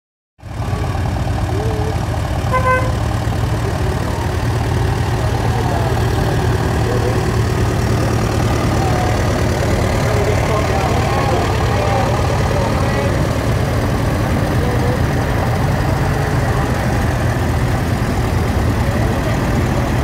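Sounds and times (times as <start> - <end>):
tractor engines rumbling: 0.4 - 20.0.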